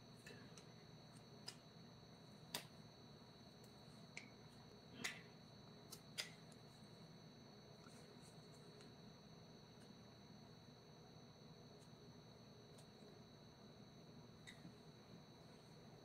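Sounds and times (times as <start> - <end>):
faint high steady whine: 0.0 - 16.0.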